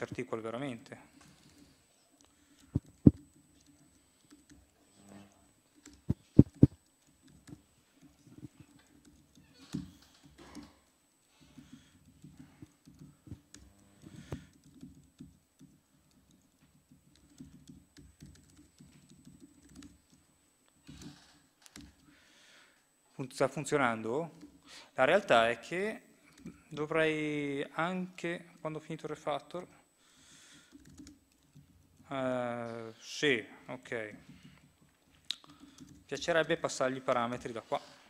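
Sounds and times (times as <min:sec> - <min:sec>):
laptop keyboard typing: 0:01.1 - 0:22.8, 0:23.7 - 0:37.6.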